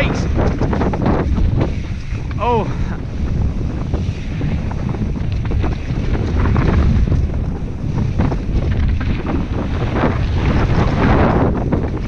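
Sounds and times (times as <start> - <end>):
bike tyres rumbling on dirt trail: 0.0 - 12.0
wind buffeting microphone: 0.0 - 12.0.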